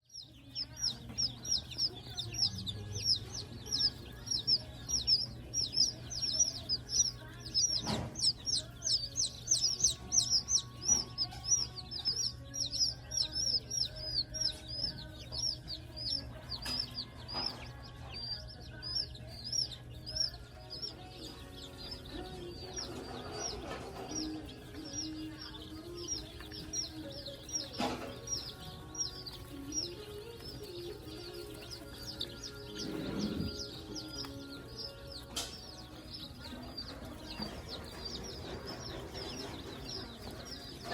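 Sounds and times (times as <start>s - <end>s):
baby birds peeping: 0.0s - 40.9s.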